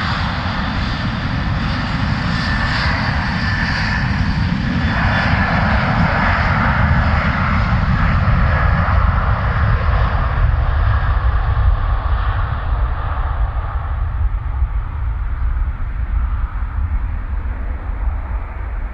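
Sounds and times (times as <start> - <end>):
jet engines roaring at takeoff: 0.0 - 18.9.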